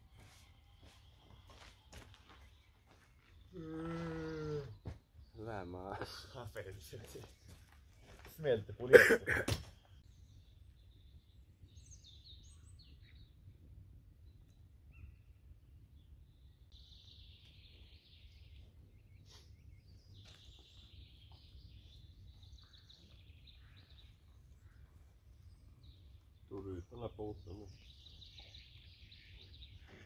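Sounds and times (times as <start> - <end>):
faint birdsong: 0.0 - 30.0.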